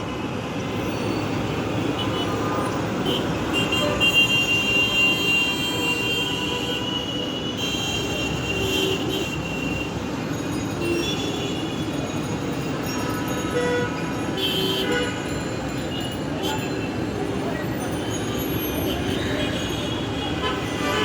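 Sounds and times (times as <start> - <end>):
city traffic: 0.0 - 21.0.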